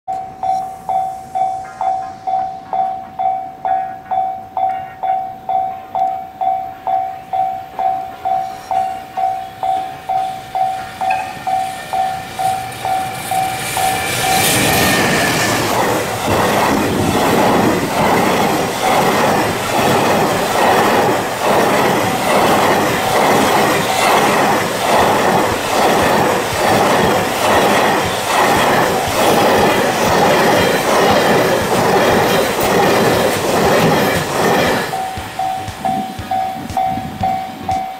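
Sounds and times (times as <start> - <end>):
freight train rumbling and clattering: 0.1 - 37.9.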